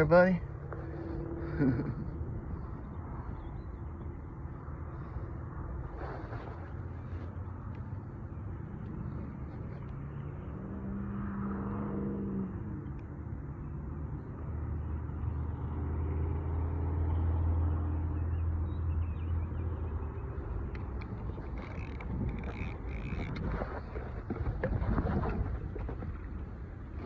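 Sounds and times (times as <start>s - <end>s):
distant engine droning: 0.0s - 27.0s.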